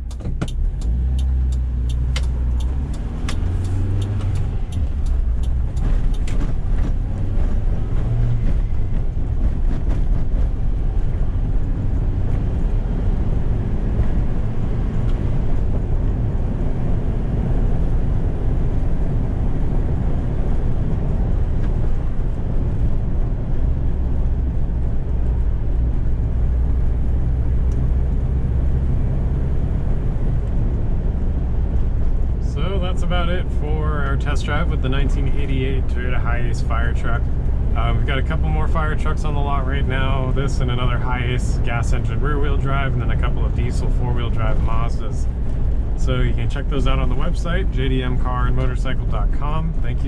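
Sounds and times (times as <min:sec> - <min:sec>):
road noise: 0:00.0 - 0:50.0
truck engine drone: 0:00.0 - 0:50.0.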